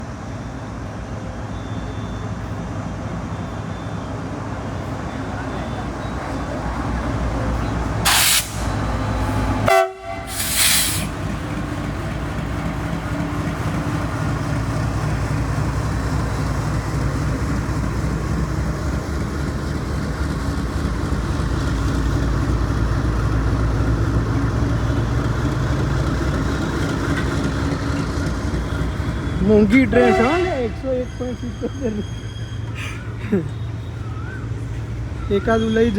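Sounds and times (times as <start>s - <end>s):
diesel locomotive engine rumbling: 0.0s - 35.9s.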